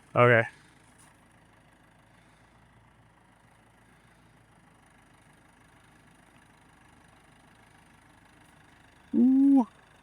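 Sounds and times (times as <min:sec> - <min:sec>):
faint engine idling: 0:00.0 - 0:10.0.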